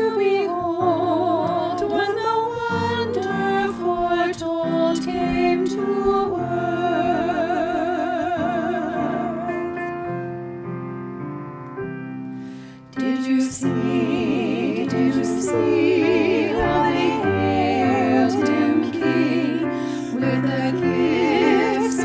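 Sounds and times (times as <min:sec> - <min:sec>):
women singing in harmony: 0:00.0 - 0:09.9, 0:13.0 - 0:22.0.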